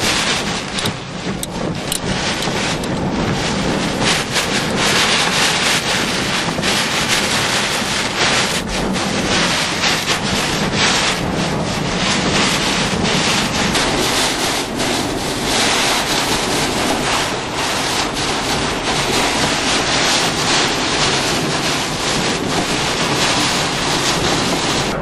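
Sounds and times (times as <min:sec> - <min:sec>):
strong wind on microphone: 0:00.0 - 0:25.0.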